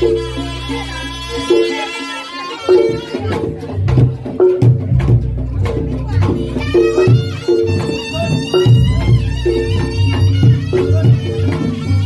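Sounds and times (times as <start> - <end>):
drum beats: 0.0 - 12.0
high wavering melody: 0.0 - 12.0.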